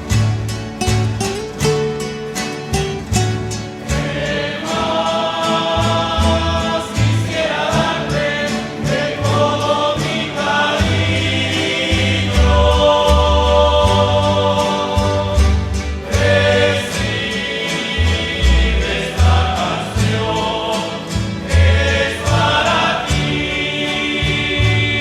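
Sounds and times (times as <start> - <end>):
guitars strumming: 0.0 - 25.0
group singing in harmony: 3.4 - 25.0.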